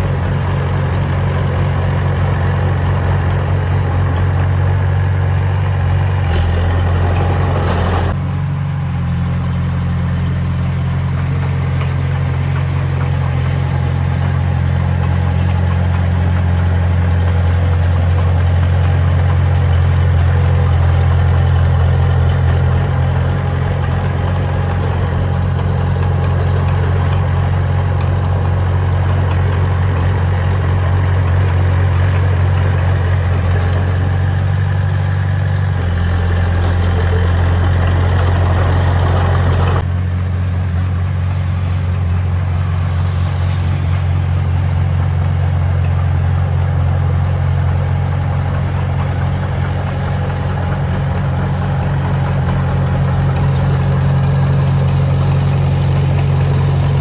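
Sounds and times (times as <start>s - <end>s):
heavy diesel engine drone: 0.0s - 57.0s.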